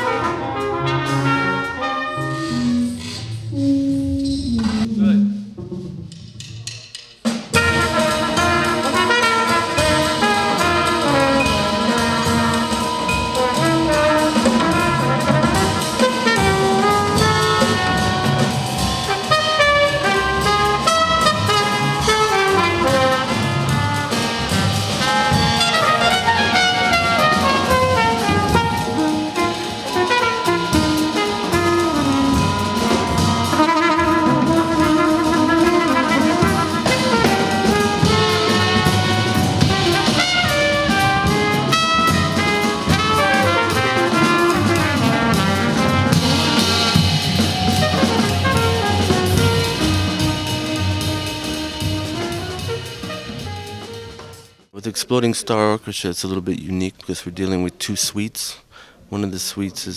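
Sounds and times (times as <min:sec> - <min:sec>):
large jazz ensemble playing: 0:00.0 - 0:55.6.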